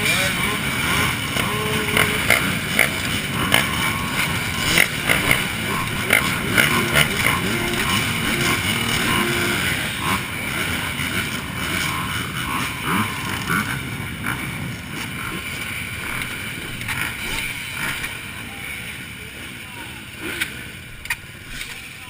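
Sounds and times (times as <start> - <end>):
motocross bike engines running: 0.0 - 22.0.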